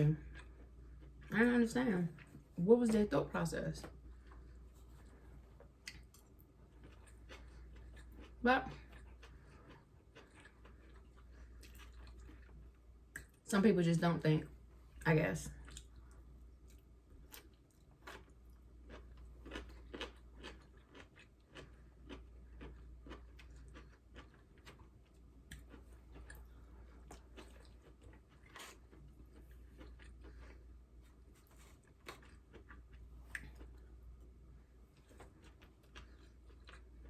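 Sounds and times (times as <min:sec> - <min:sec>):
chewing food: 0:00.0 - 0:03.1, 0:03.7 - 0:13.4, 0:14.9 - 0:37.0.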